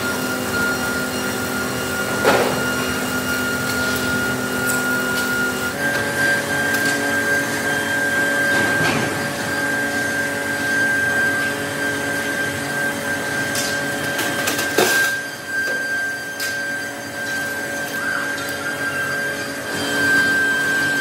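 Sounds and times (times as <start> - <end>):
factory machinery whine and hum: 0.0 - 21.0.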